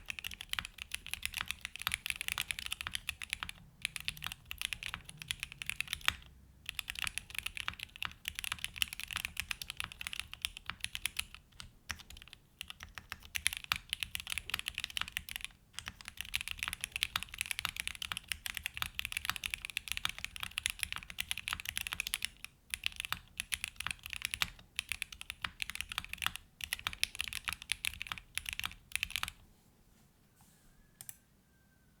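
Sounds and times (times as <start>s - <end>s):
fast mechanical keyboard typing: 0.0s - 29.4s.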